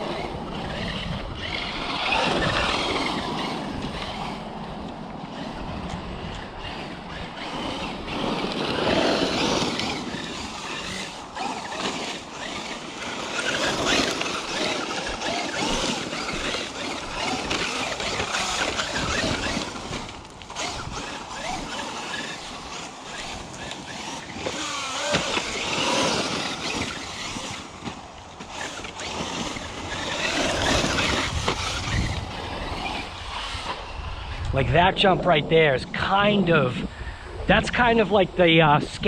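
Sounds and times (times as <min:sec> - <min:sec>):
electric motor whine: 0:00.0 - 0:34.6
tyre noise on dirt: 0:00.0 - 0:34.9.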